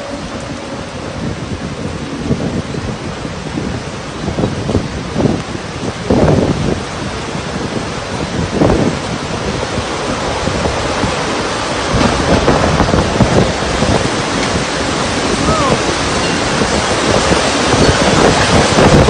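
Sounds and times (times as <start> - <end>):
heavy rain: 0.0 - 19.0
strong winds: 0.0 - 19.0
wind buffeting microphone: 0.0 - 19.0.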